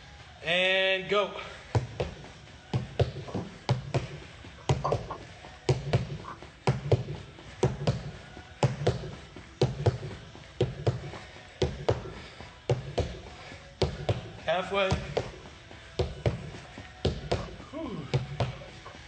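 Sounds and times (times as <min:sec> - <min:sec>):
feet thudding on a step: 0:01.7 - 0:18.7.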